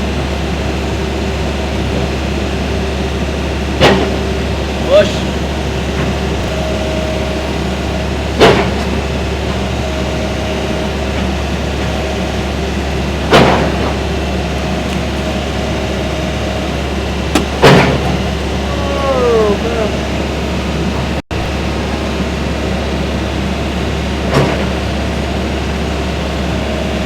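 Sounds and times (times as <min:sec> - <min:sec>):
engine hum: 0:00.0 - 0:27.0.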